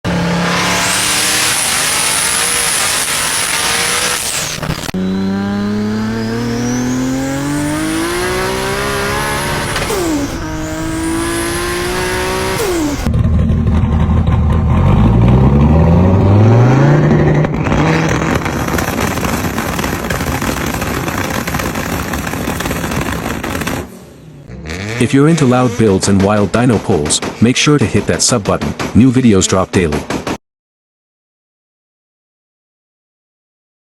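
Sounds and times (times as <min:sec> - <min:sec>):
car engines accelerating: 0:00.0 - 0:27.3.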